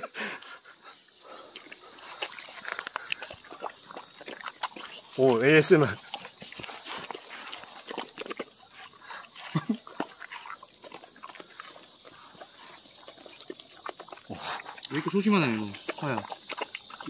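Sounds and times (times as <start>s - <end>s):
dogs chewing and slurping: 0.4s - 17.0s.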